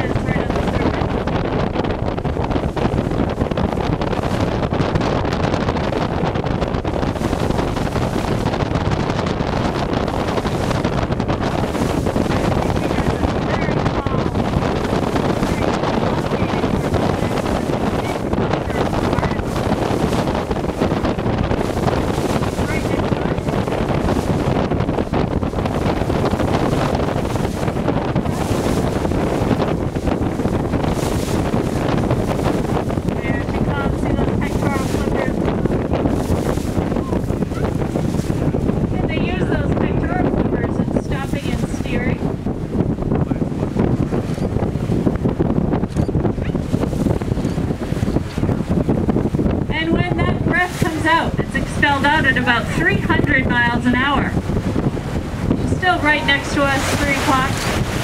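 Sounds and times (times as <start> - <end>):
boat and wave noise: 0.0 - 58.0
wind buffeting microphone: 0.0 - 58.0.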